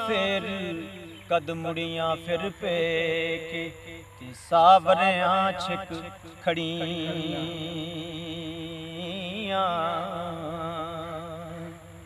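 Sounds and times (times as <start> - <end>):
man singing a long note: 0.0 - 12.0.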